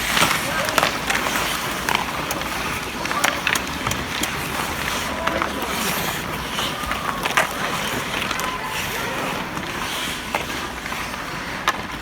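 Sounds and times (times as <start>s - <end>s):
skate wheels rolling: 0.0s - 12.0s
sticks and puck clacking: 0.0s - 12.0s.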